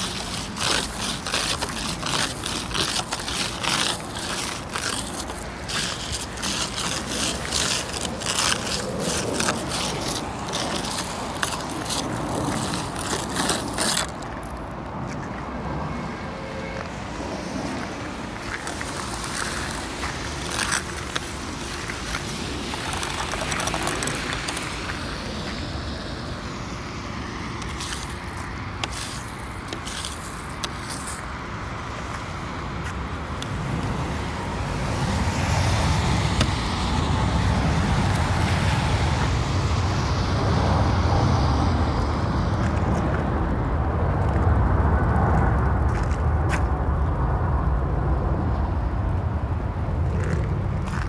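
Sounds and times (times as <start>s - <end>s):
traffic noise: 0.0s - 51.0s.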